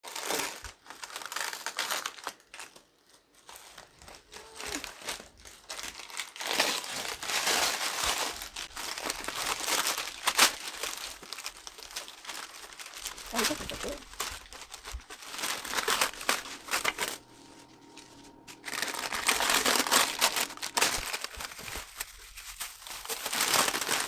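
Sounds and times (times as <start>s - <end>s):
crinkling and rustling: 0.0s - 24.0s.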